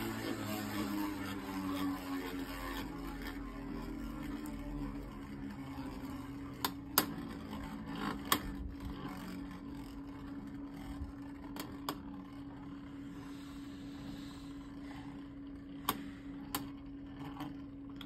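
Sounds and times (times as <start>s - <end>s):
spinning tops whirring: 0.0s - 18.0s.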